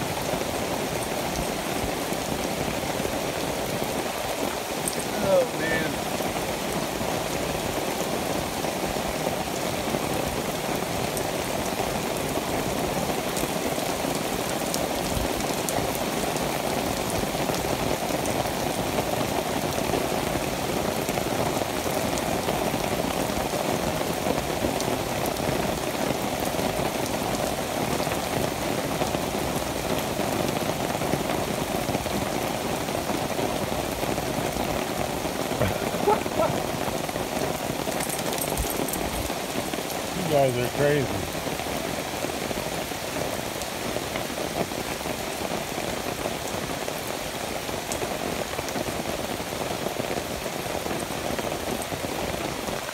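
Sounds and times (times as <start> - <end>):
rain on leaves and ground: 0.0 - 52.9.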